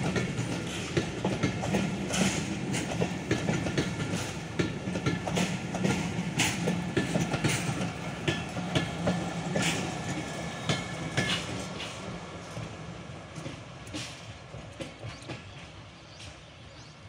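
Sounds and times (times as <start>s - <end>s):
train wheels clacking over rail joints: 0.0s - 16.4s.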